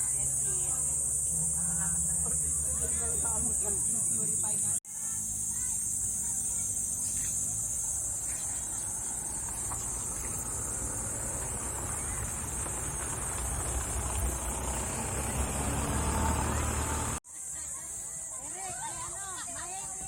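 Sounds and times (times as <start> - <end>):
motor vehicle rumble: 0.0 - 17.2
insects droning: 0.0 - 20.0.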